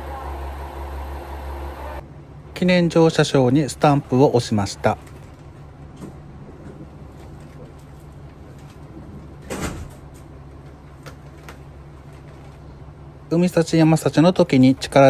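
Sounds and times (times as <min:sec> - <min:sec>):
train car hum: 0:00.0 - 0:15.0.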